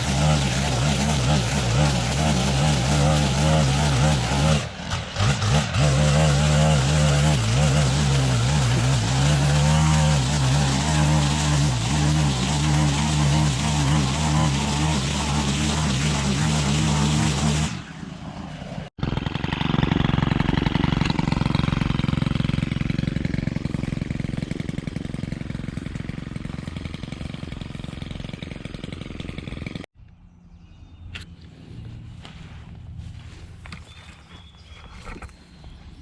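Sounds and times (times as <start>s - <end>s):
brushcutter cutting grass: 0.0s - 29.9s.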